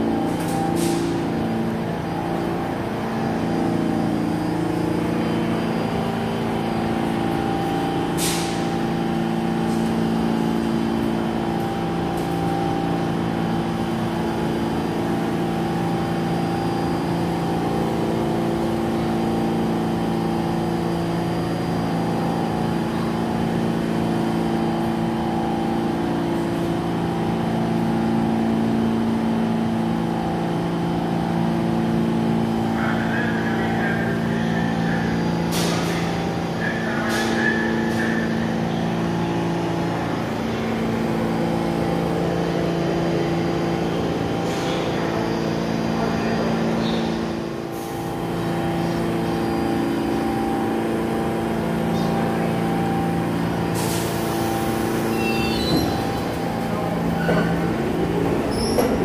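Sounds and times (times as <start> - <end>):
subway car equipment humming: 0.0 - 59.0.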